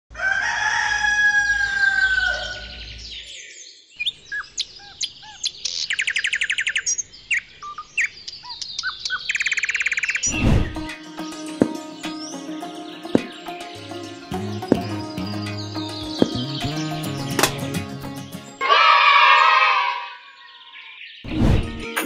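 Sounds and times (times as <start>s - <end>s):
birds chirping and singing: 1.5s - 18.9s, 20.1s - 21.5s.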